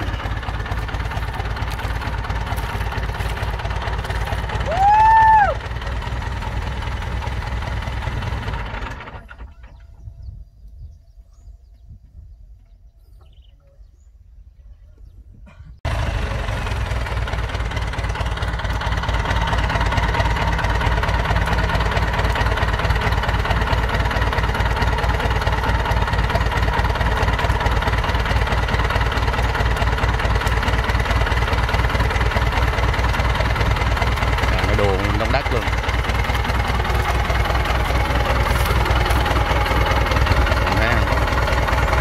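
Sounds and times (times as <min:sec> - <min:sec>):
tractor engine running: 0:00.0 - 0:10.9, 0:15.8 - 0:42.0.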